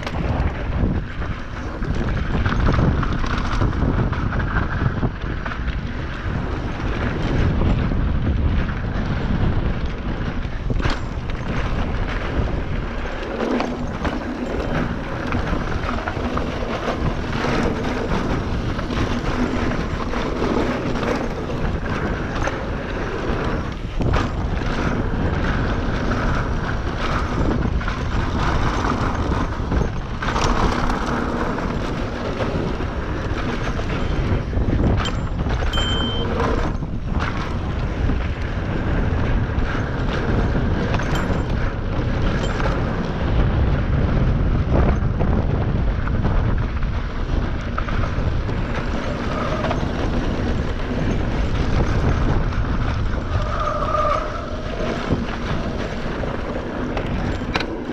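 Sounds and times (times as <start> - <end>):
bike knocks and rattles: 0.0 - 57.9
bike tyre rumble: 0.0 - 57.9
wind on microphone: 0.0 - 57.9.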